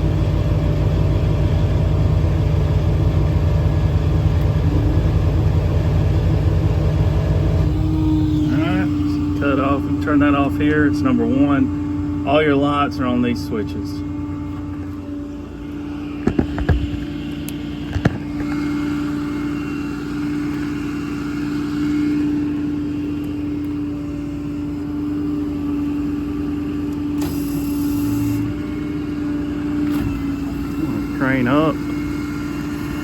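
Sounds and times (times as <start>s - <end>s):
diesel engine humming: 0.0s - 33.0s.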